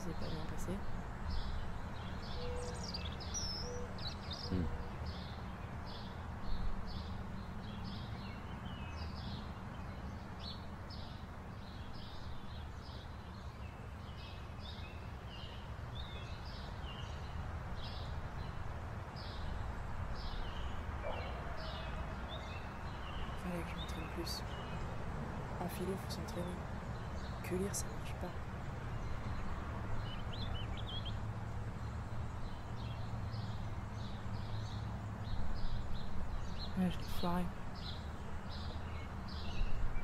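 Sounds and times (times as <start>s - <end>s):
songbird chirping: 0.0s - 40.0s.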